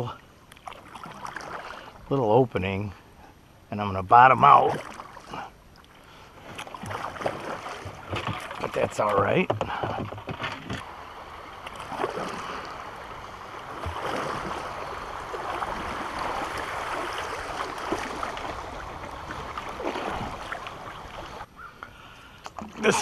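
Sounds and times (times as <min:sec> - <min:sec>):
river current rippling: 0:00.0 - 0:23.0.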